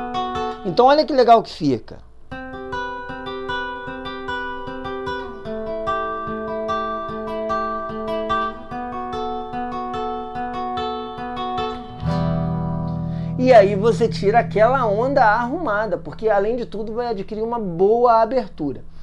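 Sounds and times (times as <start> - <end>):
guitar fingerpicking arpeggio: 0.0 - 1.3, 2.2 - 19.0.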